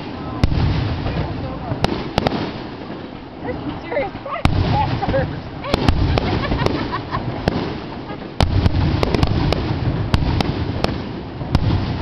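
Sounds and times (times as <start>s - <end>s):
fireworks bangs and crackles: 0.0s - 12.0s
low rumble of booms: 0.0s - 12.0s.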